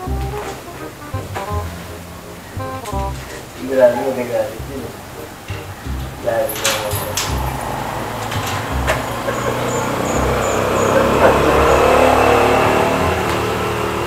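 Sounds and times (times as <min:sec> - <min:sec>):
motor vehicle running: 0:00.0 - 0:14.0.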